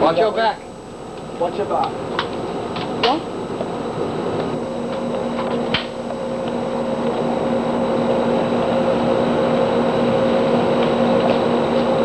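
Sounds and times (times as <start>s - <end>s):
camcorder hum and hiss: 0.0s - 12.0s.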